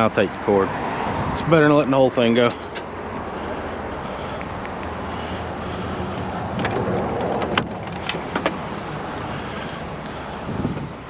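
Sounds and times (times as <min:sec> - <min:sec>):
idling vehicle rumble: 0:00.0 - 0:11.0.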